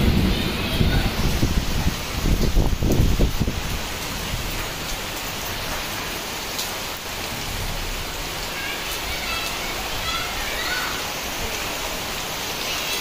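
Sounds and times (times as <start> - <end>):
heavy rain on roofs: 0.0 - 13.0.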